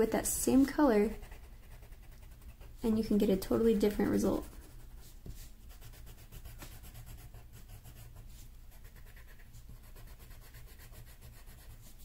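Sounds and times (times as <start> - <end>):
faint low hum: 0.0 - 12.0
pencil scratching on paper: 0.6 - 12.0.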